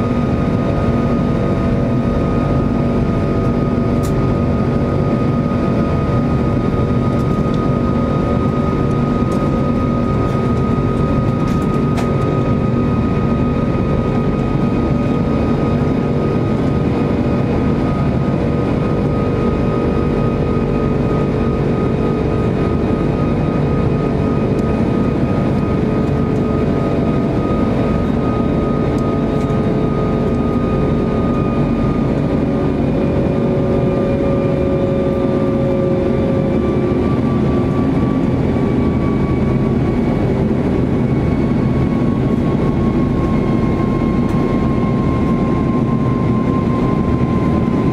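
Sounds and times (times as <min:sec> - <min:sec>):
jet engine cabin drone: 0:00.0 - 0:47.9.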